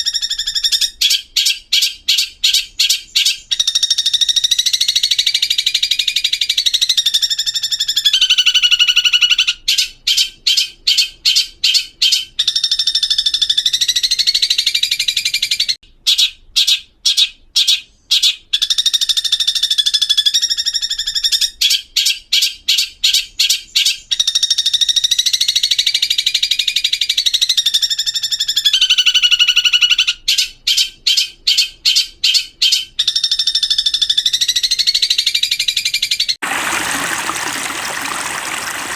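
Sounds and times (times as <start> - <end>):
bird chattering song: 0.0 - 36.4
sharp repeated bird notes: 0.0 - 36.4.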